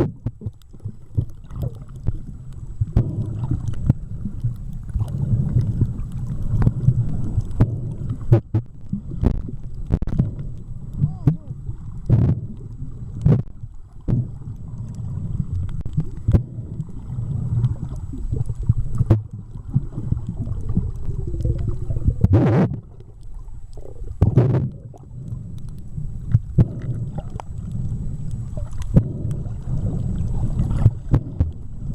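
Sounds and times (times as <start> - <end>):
muffled underwater rumble: 0.0 - 31.9
rushes of water noise: 0.0 - 31.9.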